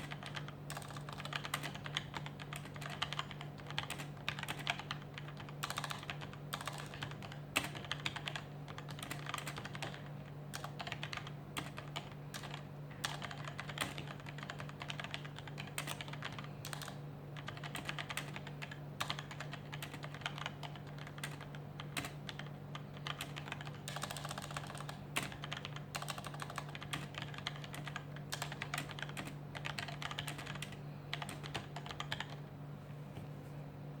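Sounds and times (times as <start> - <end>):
mechanical keyboard typing: 0.0 - 32.4
steady low hum: 0.0 - 34.0.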